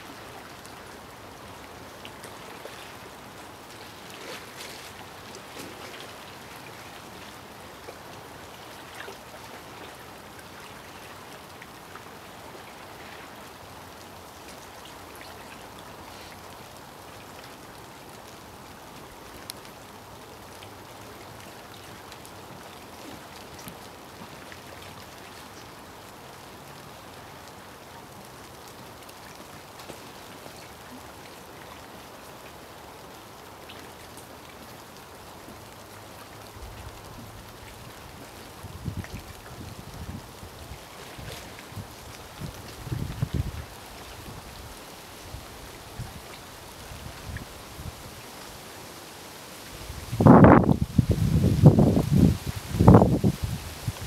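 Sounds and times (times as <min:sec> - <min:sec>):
light rain pattering: 0:00.0 - 0:54.0
sharper raindrops: 0:00.0 - 0:54.0.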